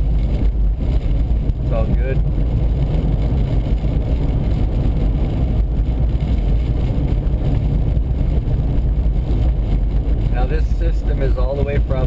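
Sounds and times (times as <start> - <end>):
car driving at highway speed: 0.0 - 12.0
road and wind noise: 0.0 - 12.0.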